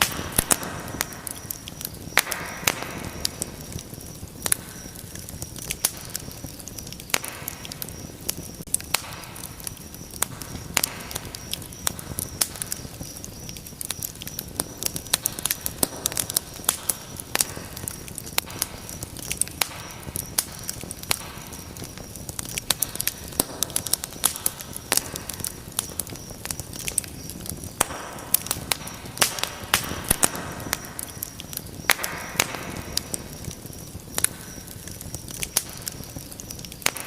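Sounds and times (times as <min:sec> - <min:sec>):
fire crackling in a fireplace: 0:00.0 - 0:37.0.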